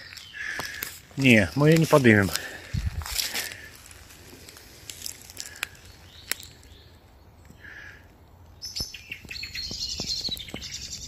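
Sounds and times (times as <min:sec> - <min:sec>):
songbirds calling: 0:00.0 - 0:11.0.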